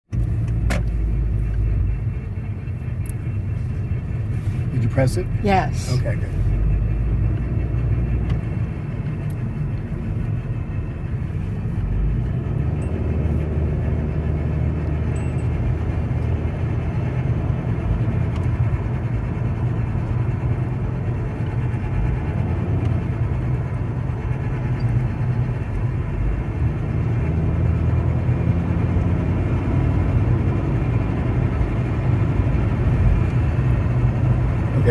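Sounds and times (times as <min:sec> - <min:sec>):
car road rumble: 0:00.1 - 0:34.9.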